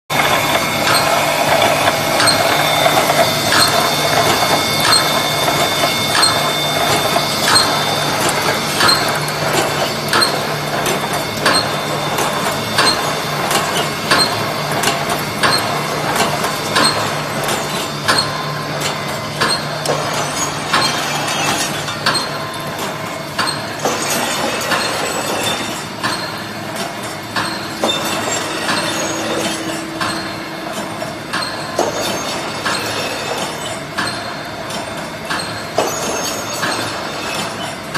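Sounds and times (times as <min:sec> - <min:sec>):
welding machine hum: 0:00.1 - 0:33.4
mechanical clacks: 0:00.1 - 0:37.9.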